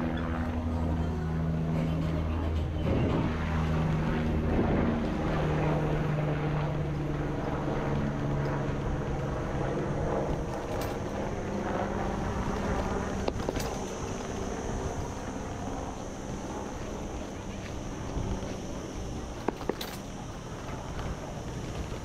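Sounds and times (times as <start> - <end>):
motor engine drone: 0.0 - 22.0.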